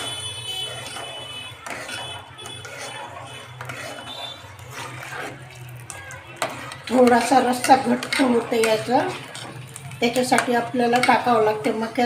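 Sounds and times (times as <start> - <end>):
ladle stirring soup in metal pot: 0.0 - 12.0.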